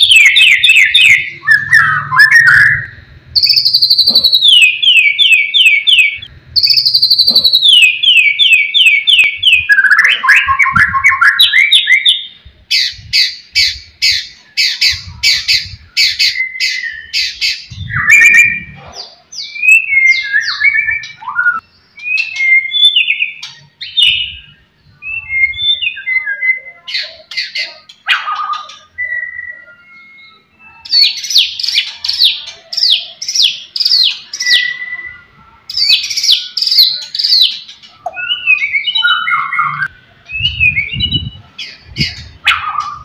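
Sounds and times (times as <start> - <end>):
bird singing loudly: 0.0 - 43.0.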